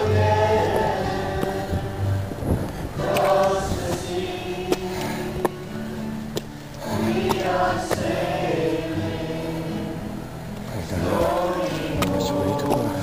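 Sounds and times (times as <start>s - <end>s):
choral singing: 0.0s - 13.0s.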